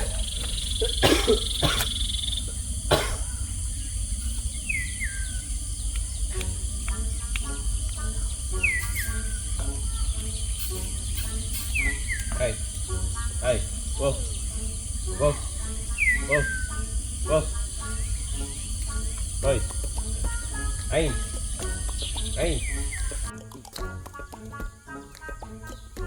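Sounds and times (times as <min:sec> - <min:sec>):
bird whistled call: 0:00.0 - 0:02.6, 0:03.2 - 0:23.3
pulsing animal call: 0:00.0 - 0:23.3
insects buzzing: 0:00.0 - 0:26.0.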